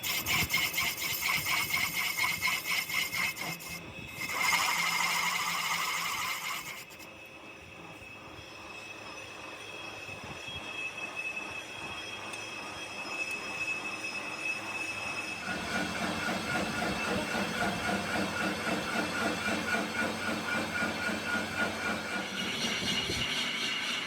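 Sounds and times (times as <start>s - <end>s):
metallic squeal of machine tool: 0.0s - 24.0s
rhythmic pulsing churn: 0.0s - 24.0s.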